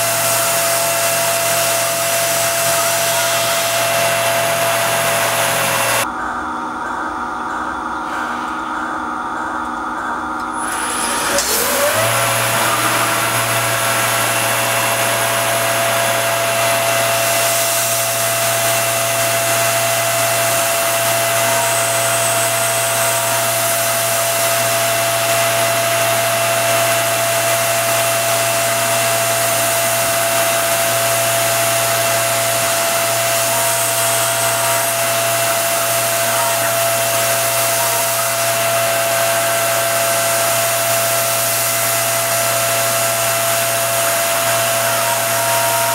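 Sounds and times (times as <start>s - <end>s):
mill spindle whine: 0.0s - 45.9s.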